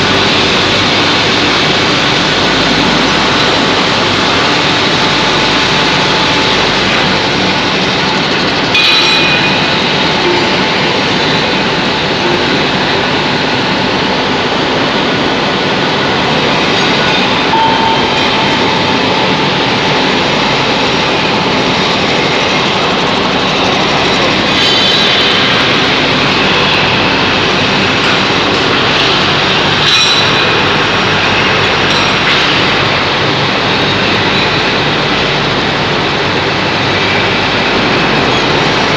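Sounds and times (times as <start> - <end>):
loud rushing machinery noise: 0.0 - 38.9.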